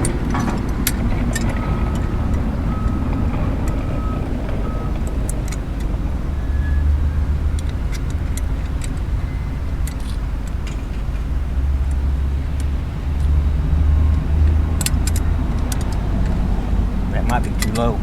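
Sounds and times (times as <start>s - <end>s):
metal clicks and knocks: 0.0s - 6.1s, 7.5s - 13.3s, 14.1s - 18.0s.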